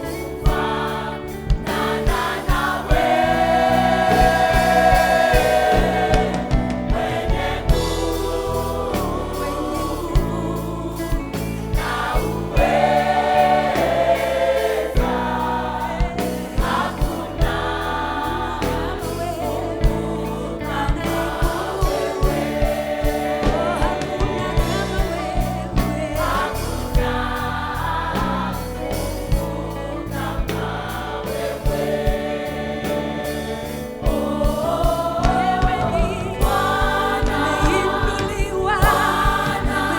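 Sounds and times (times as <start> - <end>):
band with drum beat and bass: 0.0 - 39.9
choir singing gospel: 0.0 - 39.9.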